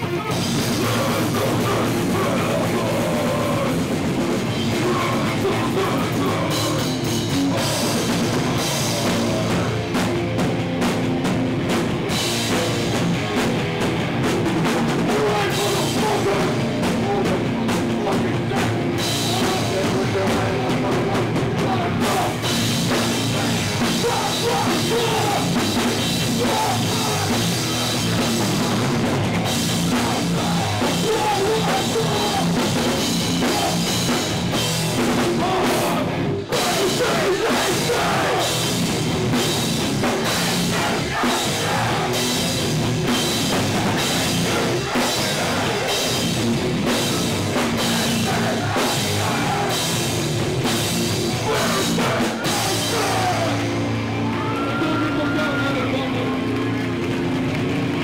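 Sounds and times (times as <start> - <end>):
heavy rock band playing live: 0.0 - 58.0
pounding drum kit: 0.0 - 58.0.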